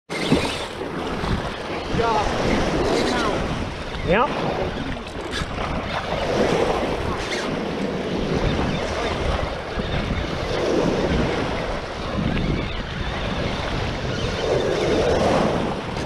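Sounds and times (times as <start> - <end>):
small surf waves washing: 0.1 - 16.0
wind buffeting microphone: 0.2 - 16.0.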